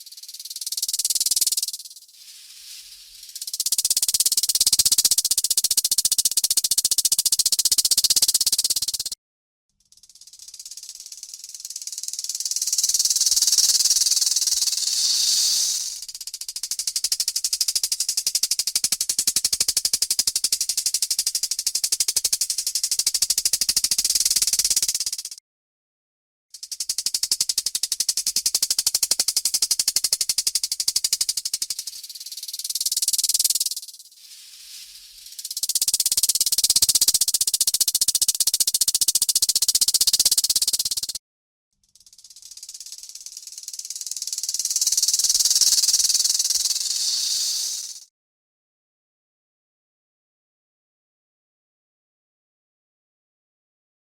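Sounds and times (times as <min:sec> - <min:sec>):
rattlesnake rattle buzzing: 0:00.0 - 0:09.2, 0:09.8 - 0:25.4, 0:26.6 - 0:41.2, 0:41.8 - 0:48.1.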